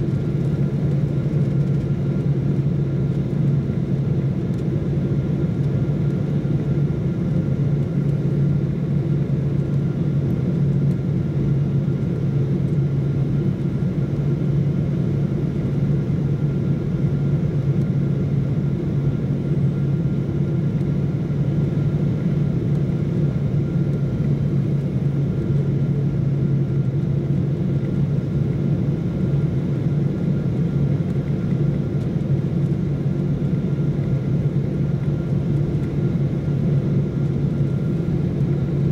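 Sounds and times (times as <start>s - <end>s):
jet engine cabin drone: 0.0s - 38.9s.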